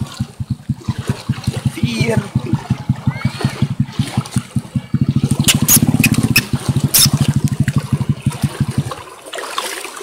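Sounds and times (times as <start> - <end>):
small engine chugging: 0.0 - 9.3
water splashes: 0.0 - 10.0.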